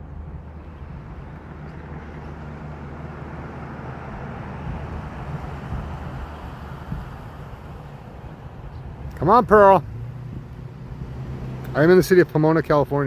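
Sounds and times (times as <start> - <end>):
vehicle passing on street: 0.0 - 13.0.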